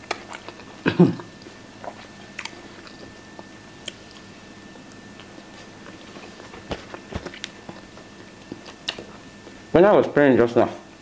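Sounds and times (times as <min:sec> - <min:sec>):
people chewing and biting: 0:00.0 - 0:09.6.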